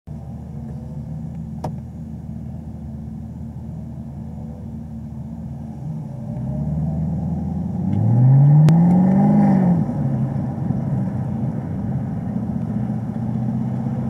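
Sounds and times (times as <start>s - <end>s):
car engine idling: 0.1s - 8.6s, 9.7s - 14.0s.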